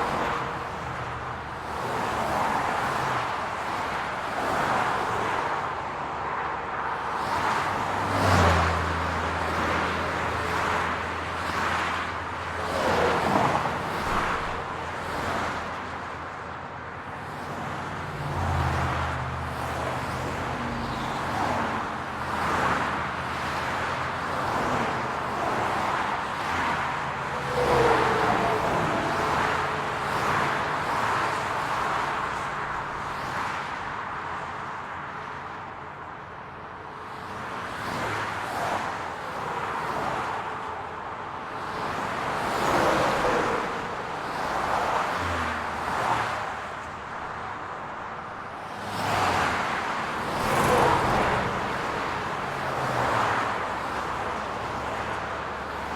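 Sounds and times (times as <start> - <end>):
cars passing: 0.0 - 55.9.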